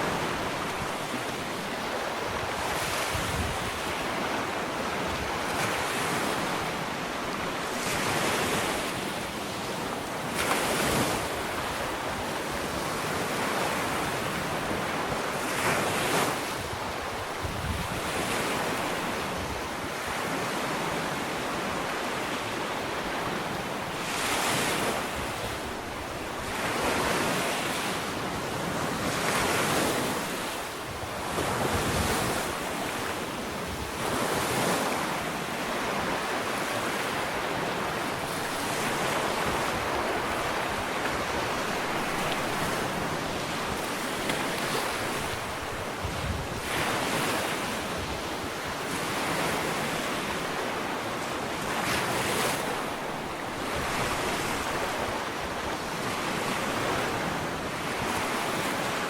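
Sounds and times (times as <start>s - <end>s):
waves breaking on a beach: 0.0s - 59.0s
wind on microphone: 0.0s - 59.0s.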